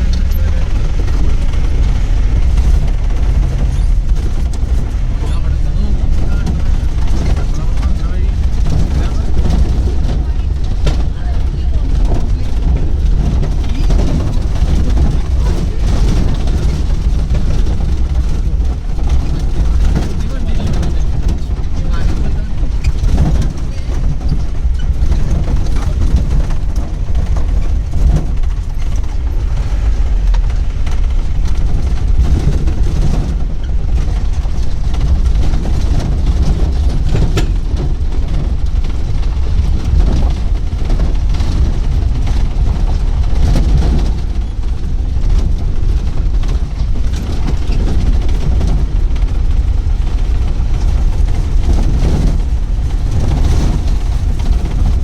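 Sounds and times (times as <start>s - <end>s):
vehicle knocks and rattles: 0.0s - 55.0s
vehicle rumbling on dirt track: 0.0s - 55.0s.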